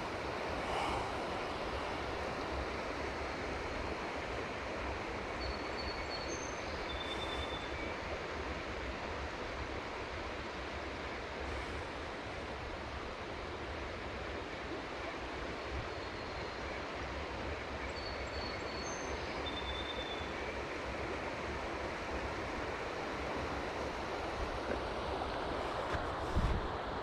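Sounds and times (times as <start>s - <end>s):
flowing river water: 0.0s - 17.8s, 20.2s - 27.0s.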